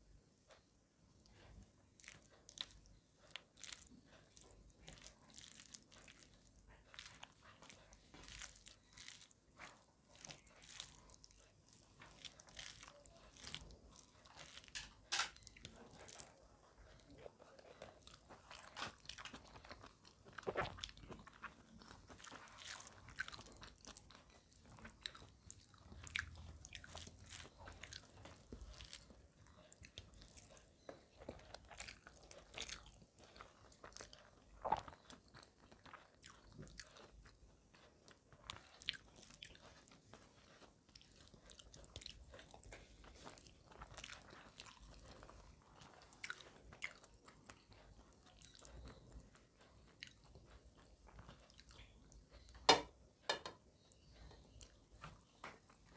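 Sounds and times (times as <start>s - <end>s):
chewing and mouth sounds: 0.5s - 55.9s.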